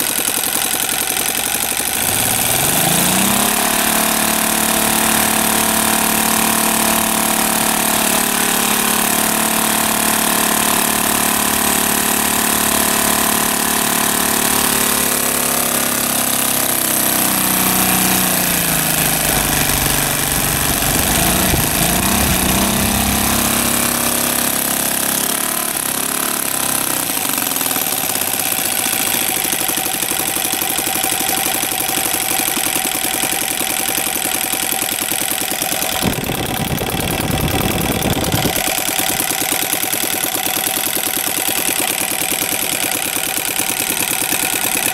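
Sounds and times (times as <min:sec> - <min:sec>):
model aircraft engine running: 0:00.0 - 0:44.9.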